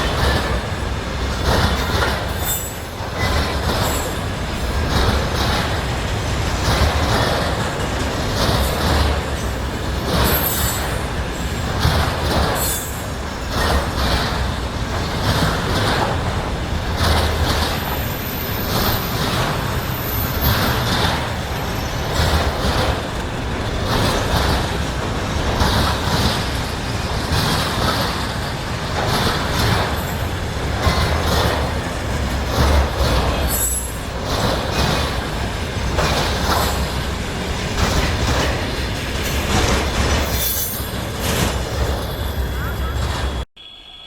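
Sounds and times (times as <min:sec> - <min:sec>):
wheels knocking over rail joints: 0:00.0 - 0:42.0
train wagons rolling: 0:00.0 - 0:43.5.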